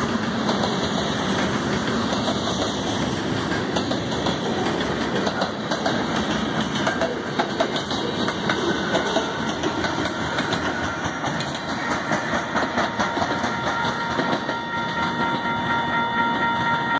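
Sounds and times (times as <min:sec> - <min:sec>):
wheels clacking over rail joints: 0:00.0 - 0:15.8
freight train rolling past: 0:00.0 - 0:16.9.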